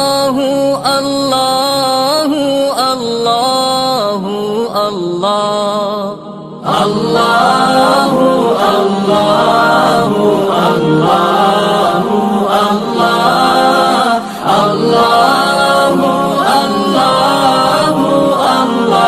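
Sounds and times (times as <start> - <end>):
voices chanting a cappella: 0.0 - 19.0.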